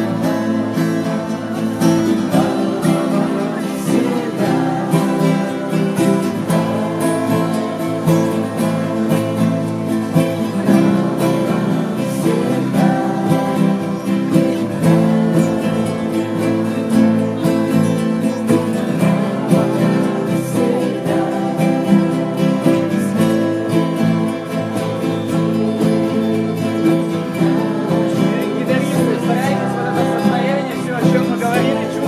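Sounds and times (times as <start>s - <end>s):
acoustic guitar strumming: 0.0s - 32.0s
people singing: 0.0s - 32.0s.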